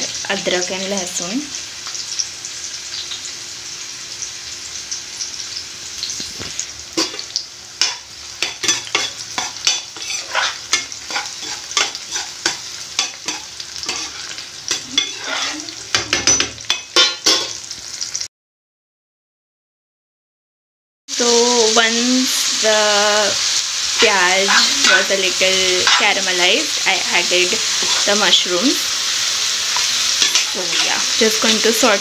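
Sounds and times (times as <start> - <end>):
onions sizzling in hot oil: 0.0 - 18.3, 21.1 - 32.0.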